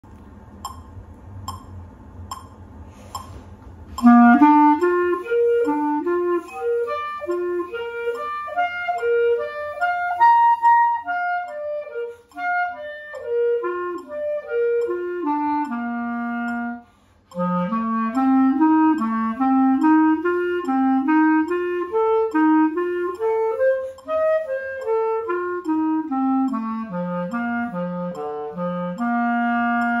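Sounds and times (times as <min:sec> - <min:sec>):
clarinet playing scales: 0:04.0 - 0:30.0.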